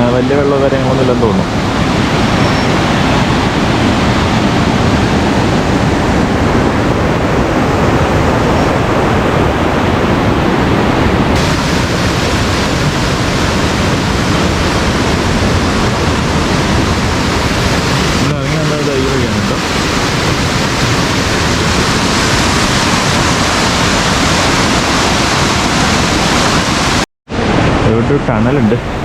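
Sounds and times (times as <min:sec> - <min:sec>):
waterfall rushing: 0:00.0 - 0:09.2, 0:10.2 - 0:29.0.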